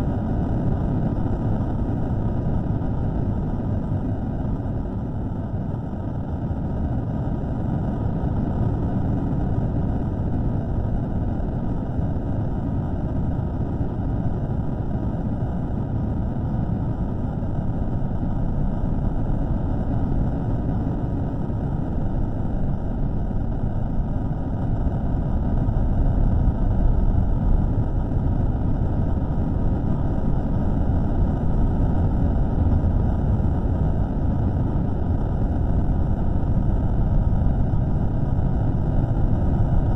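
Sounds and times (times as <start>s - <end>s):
low rumbling drone: 0.0s - 39.9s.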